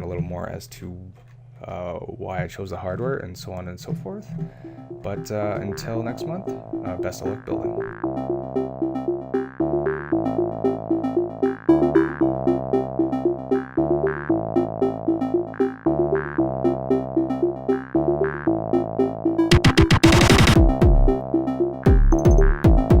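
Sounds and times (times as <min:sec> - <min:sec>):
electronic synthesizer music: 0:03.8 - 0:23.0.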